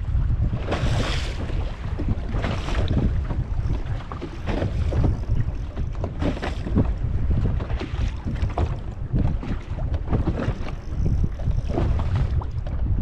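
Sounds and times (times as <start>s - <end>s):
wind buffeting microphone: 0.0s - 13.0s
water splashes: 0.5s - 13.0s.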